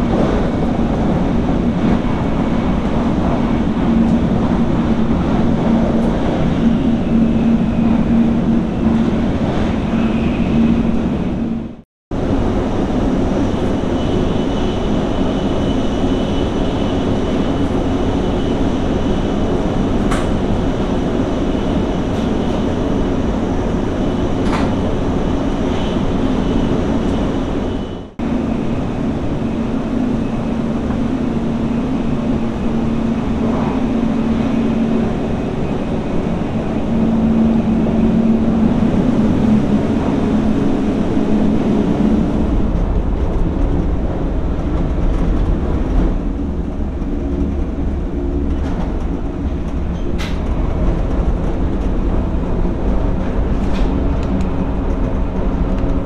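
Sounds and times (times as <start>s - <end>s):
train running at speed: 0.0s - 56.0s.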